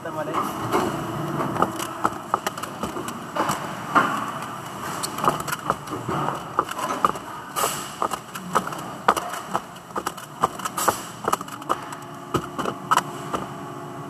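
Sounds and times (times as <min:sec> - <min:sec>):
factory machinery hum: 0:00.0 - 0:14.0
plastic parts clicking and clattering: 0:01.6 - 0:13.5.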